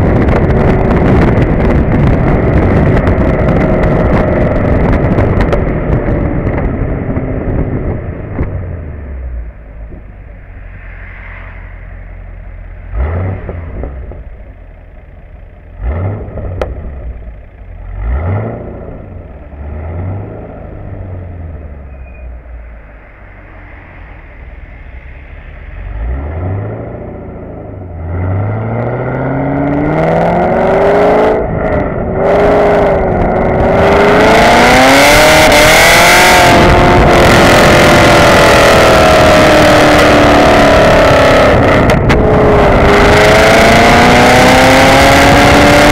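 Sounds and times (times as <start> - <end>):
wind rushing: 0.0 - 14.7, 18.3 - 45.9
car engine revving: 0.0 - 45.9
car exhaust drone: 0.0 - 45.9.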